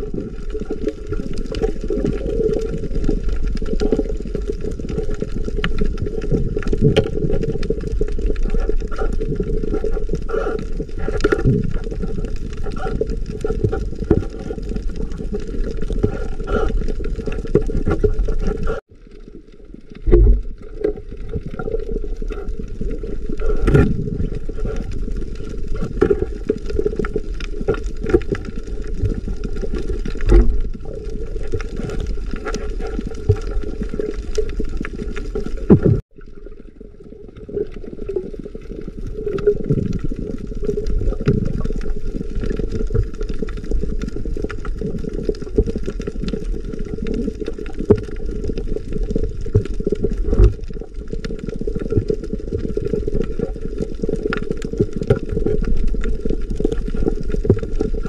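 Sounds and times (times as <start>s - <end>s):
muffled underwater rumble and gurgle: 0.0s - 58.0s.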